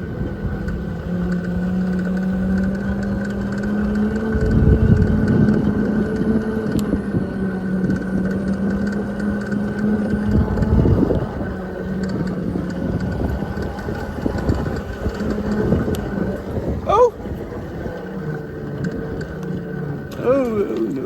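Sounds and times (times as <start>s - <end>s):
electric motor whine: 0.0s - 21.0s
tyres rumbling on rough ground: 0.0s - 21.0s
wind: 0.0s - 21.0s.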